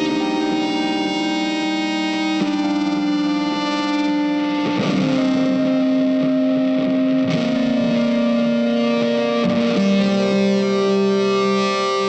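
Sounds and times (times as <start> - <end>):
slow electric guitar notes: 0.0 - 12.0.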